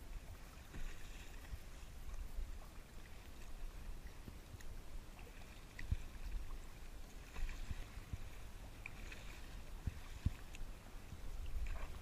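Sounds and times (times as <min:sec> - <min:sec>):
water splashing against kayak: 0:00.0 - 0:12.0
waves slapping hull: 0:00.0 - 0:12.0
wind rumble on microphone: 0:00.0 - 0:12.0.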